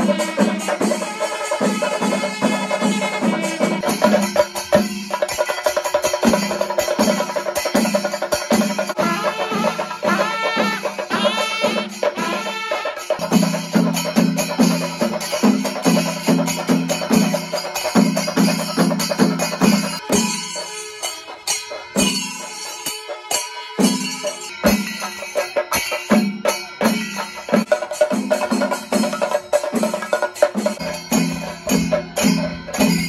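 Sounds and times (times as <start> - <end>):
drums beaten with sticks: 0.0 - 33.0
hand cymbals clashing: 0.0 - 33.0.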